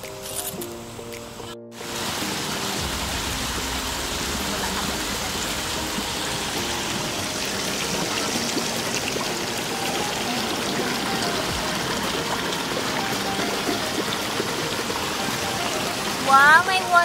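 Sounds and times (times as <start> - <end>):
river water rushing over rocks: 1.8 - 17.0.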